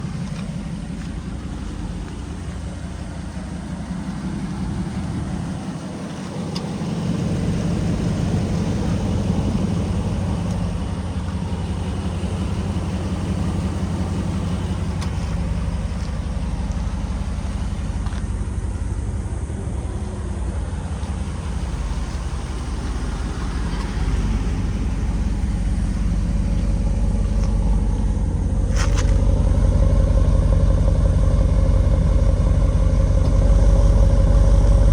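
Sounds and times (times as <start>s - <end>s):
deep engine exhaust note: 0.0s - 34.9s.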